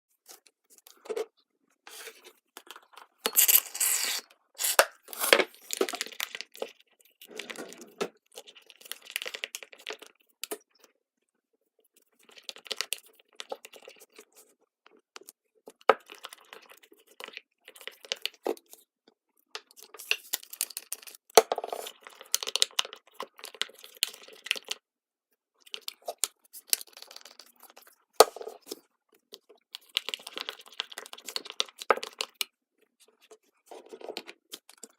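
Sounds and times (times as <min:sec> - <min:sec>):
crackling and clicks of handling: 0:00.1 - 0:34.9.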